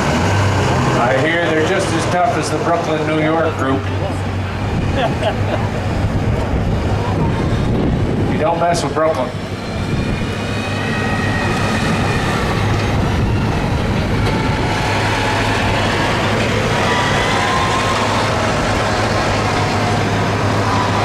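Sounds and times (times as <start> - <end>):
lawn tractor engine running loudly: 0.0 - 21.0.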